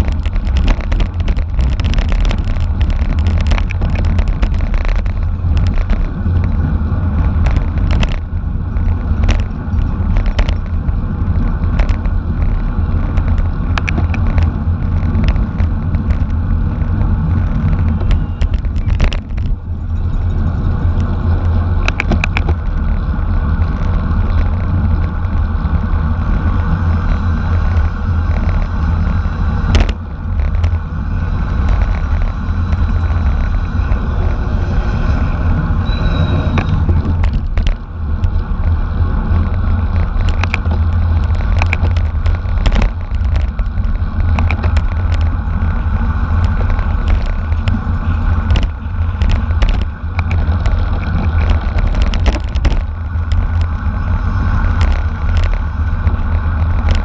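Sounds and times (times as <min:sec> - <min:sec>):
tyre and road noise: 0:00.0 - 0:57.0
wind rushing over microphone: 0:00.0 - 0:57.0.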